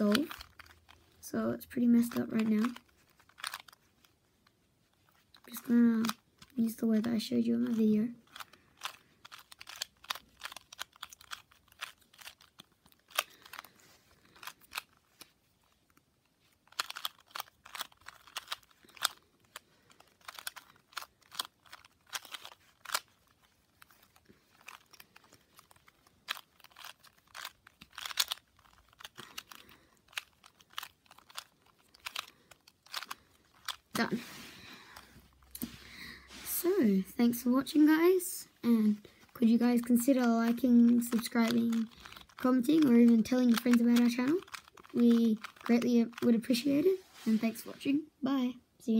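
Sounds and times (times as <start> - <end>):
puzzle cube clicking and clacking: 0.0 - 34.2, 36.5 - 47.7.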